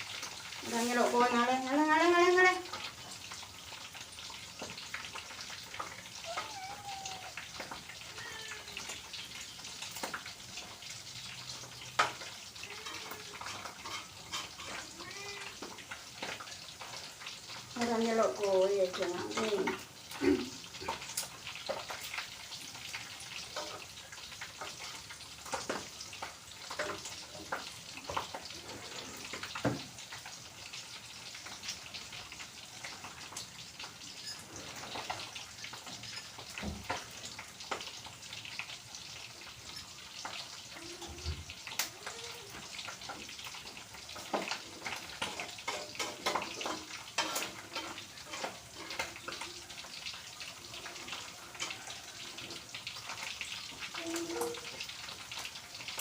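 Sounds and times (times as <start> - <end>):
oil sizzling in a frying pan: 0.0 - 56.0.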